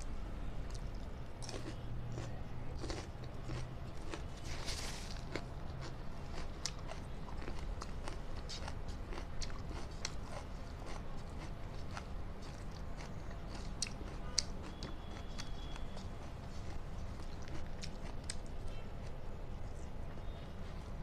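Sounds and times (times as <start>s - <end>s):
person chewing food: 0.6s - 18.7s.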